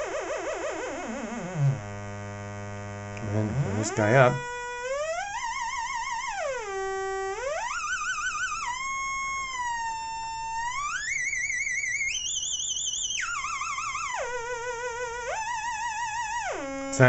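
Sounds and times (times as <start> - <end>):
buzzy synth tone sliding in pitch: 1.0 - 17.0.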